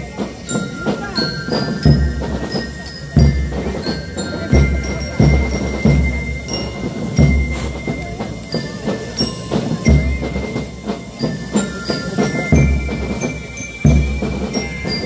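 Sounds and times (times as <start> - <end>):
bass drum strokes: 0.0 - 15.0
bell lyres ringing: 0.0 - 15.0
marching band playing: 0.0 - 15.0
snare drumming: 0.0 - 15.0.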